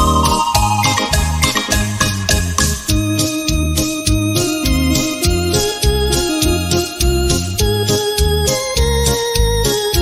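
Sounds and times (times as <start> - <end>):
dance backing track with beat: 0.0 - 10.0
electronic keyboard organ-like melody: 0.0 - 10.0.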